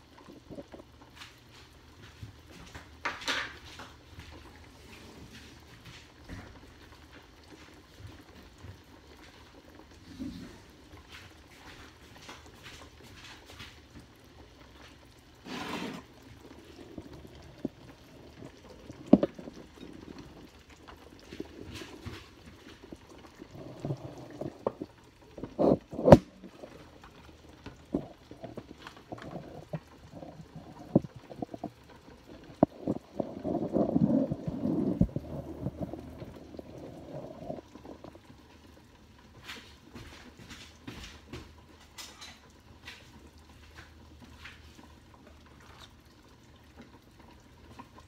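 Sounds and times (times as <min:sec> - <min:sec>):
soup simmering and bubbling: 0:00.0 - 0:48.0.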